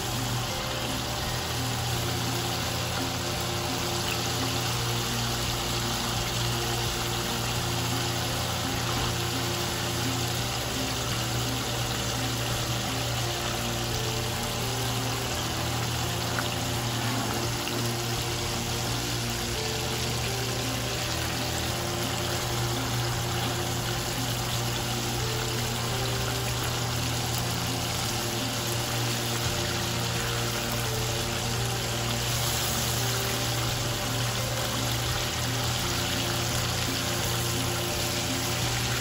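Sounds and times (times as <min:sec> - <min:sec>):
background music: 0:00.0 - 0:39.0
oil sizzling and bubbling: 0:00.0 - 0:39.0.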